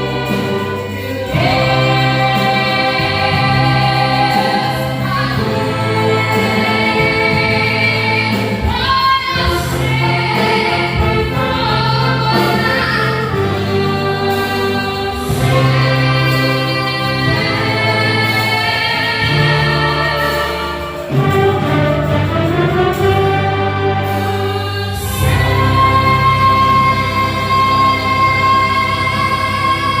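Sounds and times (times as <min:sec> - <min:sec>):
gospel band playing: 0:00.0 - 0:30.0
group singing: 0:00.0 - 0:30.0
steady bass: 0:00.0 - 0:30.0.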